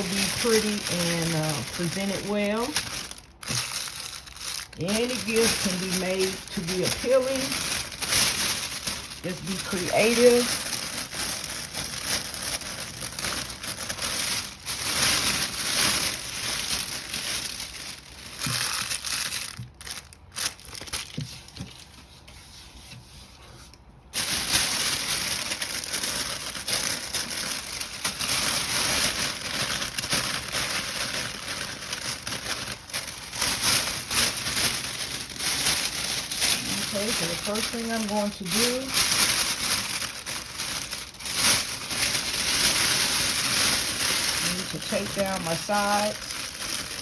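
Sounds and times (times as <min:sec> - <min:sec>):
plastic bag crinkling: 0:00.0 - 0:22.0, 0:24.1 - 0:47.0.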